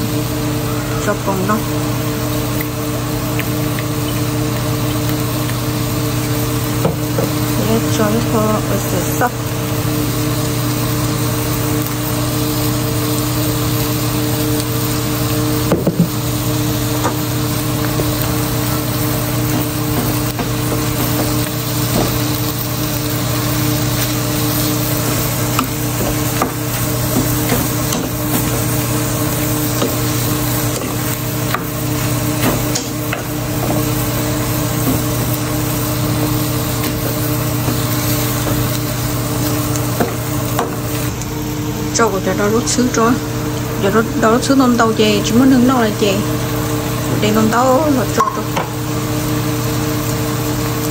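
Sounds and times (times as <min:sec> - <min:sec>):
meat frying in a pan: 0:00.0 - 0:50.9
steady hum: 0:00.0 - 0:50.9.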